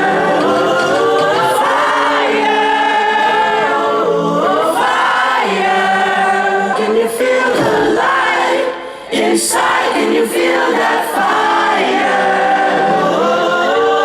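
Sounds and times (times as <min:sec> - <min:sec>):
choir-like voices singing: 0:00.0 - 0:14.0.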